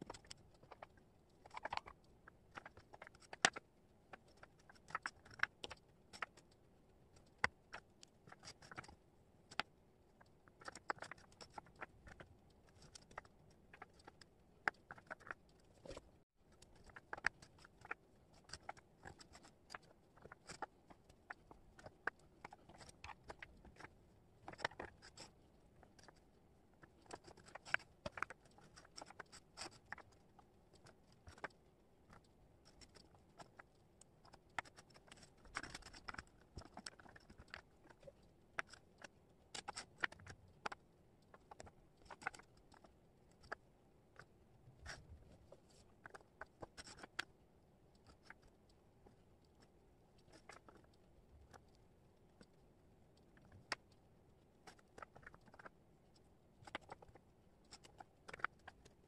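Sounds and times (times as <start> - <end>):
wooden puzzle pieces clicking: 0.0 - 16.0, 16.6 - 23.9, 26.8 - 43.6, 46.0 - 47.3, 50.2 - 51.8, 54.6 - 59.0.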